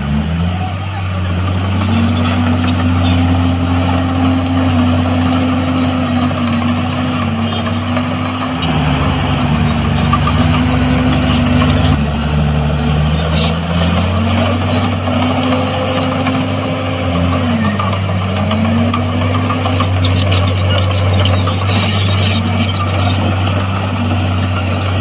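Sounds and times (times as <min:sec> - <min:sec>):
heavy machinery diesel engine: 0:00.0 - 0:25.0.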